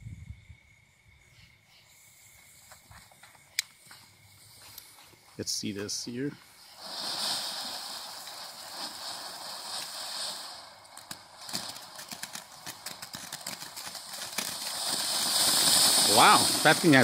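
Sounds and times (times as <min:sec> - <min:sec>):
firework fountain hissing: 0:00.2 - 0:17.0
firework crackles: 0:00.5 - 0:17.0.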